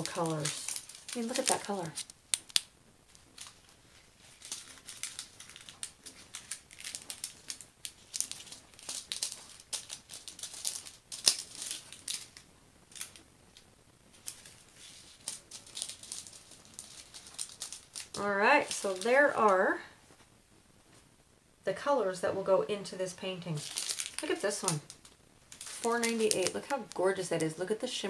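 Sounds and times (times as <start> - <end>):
plastic bags crinkling: 0.0 - 20.0, 23.5 - 28.0.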